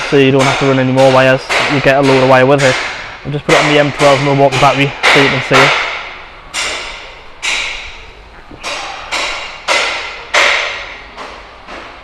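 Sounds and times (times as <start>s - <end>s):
sharp knocks: 0.0s - 12.0s.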